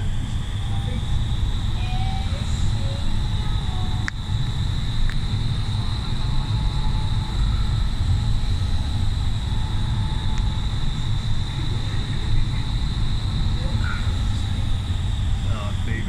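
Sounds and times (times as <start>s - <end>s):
steady high-pitched tone: 0.0s - 16.0s
wind tunnel airflow roar: 0.0s - 16.0s.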